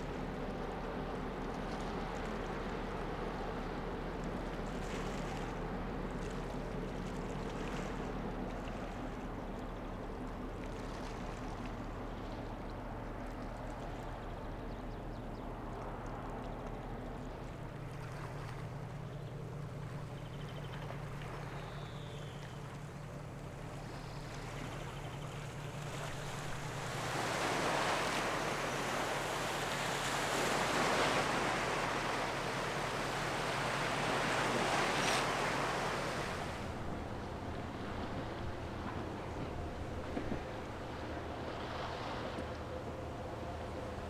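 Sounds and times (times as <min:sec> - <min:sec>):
water rushing along hull: 0:00.0 - 0:44.0
ship engine humming: 0:05.4 - 0:44.0.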